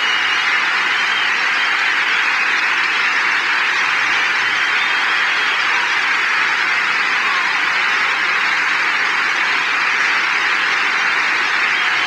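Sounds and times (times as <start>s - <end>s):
audience applauding and cheering: 0.0s - 12.0s.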